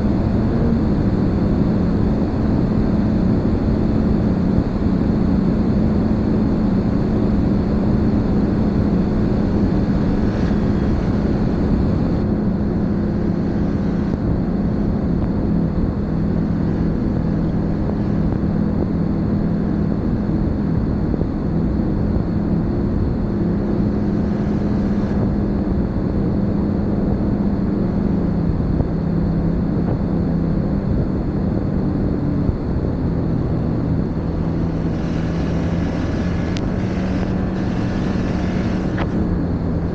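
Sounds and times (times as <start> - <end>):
snowmobile engine droning: 0.0 - 39.9.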